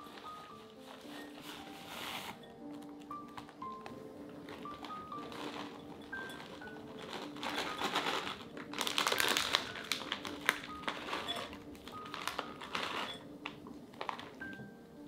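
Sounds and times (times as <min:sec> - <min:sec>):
faint background music: 0:00.0 - 0:15.0.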